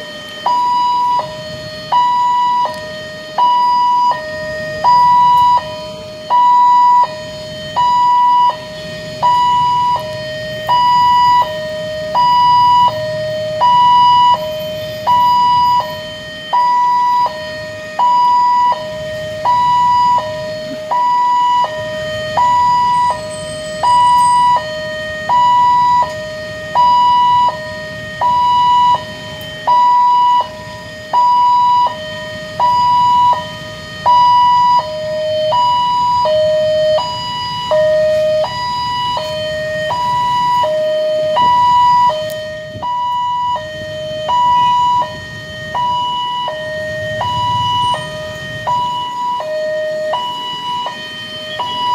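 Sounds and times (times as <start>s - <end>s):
level crossing two-tone alarm: 0.0s - 51.9s.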